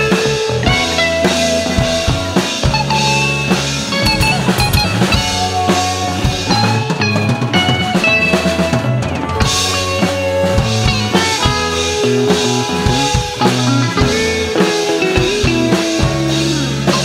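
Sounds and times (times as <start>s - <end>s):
drum kit: 0.0s - 17.0s
electric bass: 0.0s - 17.0s
electric guitar: 0.0s - 17.0s.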